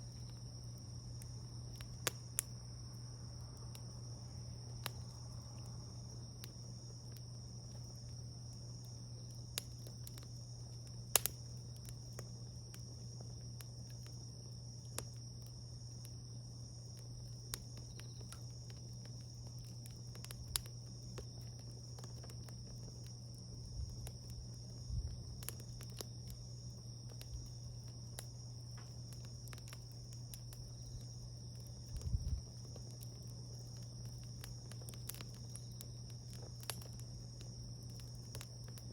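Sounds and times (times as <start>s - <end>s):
insects trilling: 0.0s - 38.9s
steady low hum: 0.0s - 38.9s
wood fire popping and crackling: 0.0s - 38.9s.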